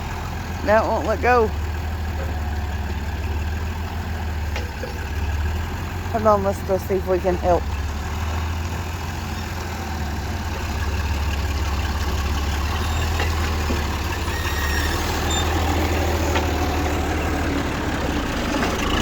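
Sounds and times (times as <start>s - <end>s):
farm machinery droning: 0.0s - 19.0s.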